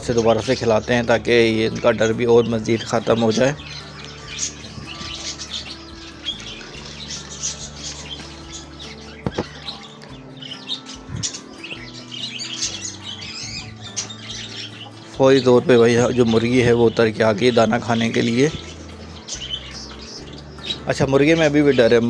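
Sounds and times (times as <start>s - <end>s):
small birds chirping: 0.0s - 22.0s
soft music of low notes: 0.0s - 22.0s.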